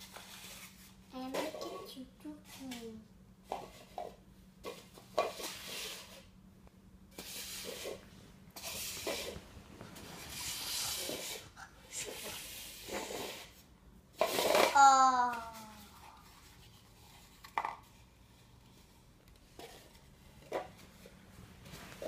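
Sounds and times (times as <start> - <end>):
cups scraping on floor: 0.0 - 2.8, 3.4 - 6.4, 7.1 - 14.8, 15.5 - 22.0.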